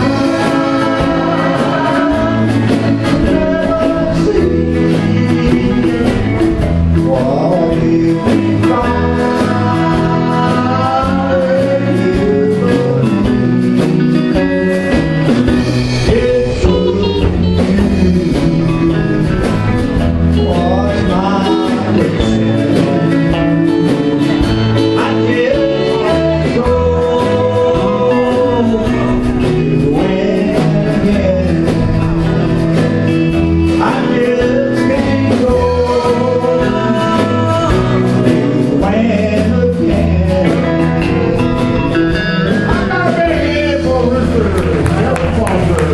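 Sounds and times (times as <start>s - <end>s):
acoustic guitar and strings: 0.0s - 45.9s
man singing: 0.0s - 45.9s.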